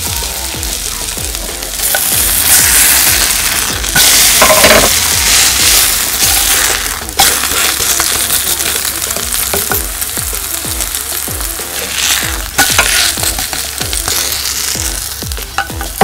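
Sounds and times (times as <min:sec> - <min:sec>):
pancake sizzling in hot oil: 0:00.0 - 0:16.0.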